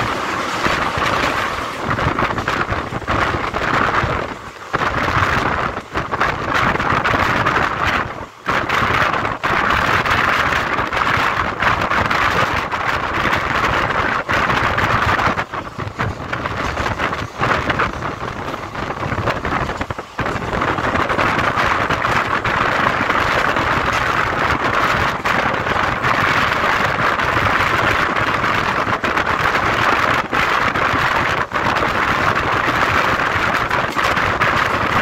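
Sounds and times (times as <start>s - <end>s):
train wheels rumbling on rails: 0.0s - 35.0s
wind rushing past carriage: 0.0s - 35.0s.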